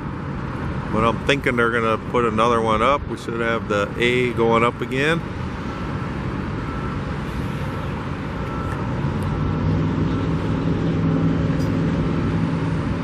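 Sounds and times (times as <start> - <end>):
road traffic: 0.0 - 13.0
vehicle engine humming: 0.0 - 13.0.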